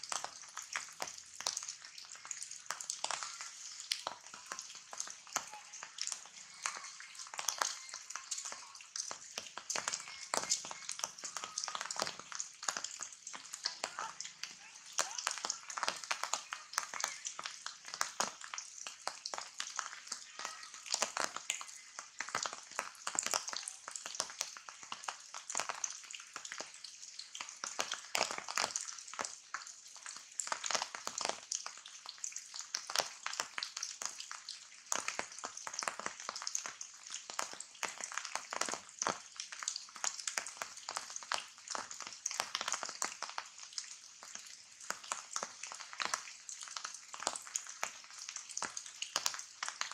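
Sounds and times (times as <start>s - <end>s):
rain falling on leaves: 0.0s - 49.9s.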